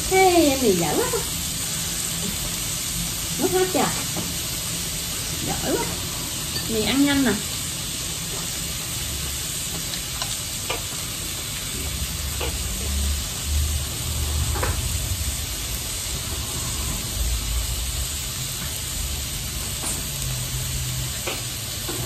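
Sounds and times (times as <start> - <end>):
meat sizzling on grill: 0.0 - 22.0.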